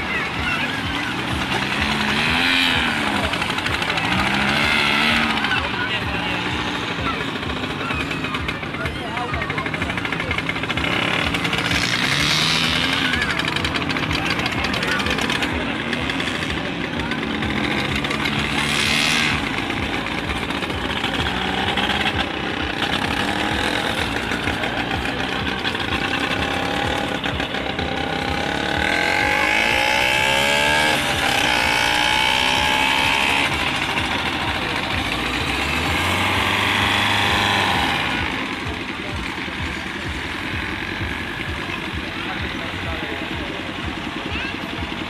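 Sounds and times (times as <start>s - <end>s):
racing tractor engines passing: 0.0s - 45.0s.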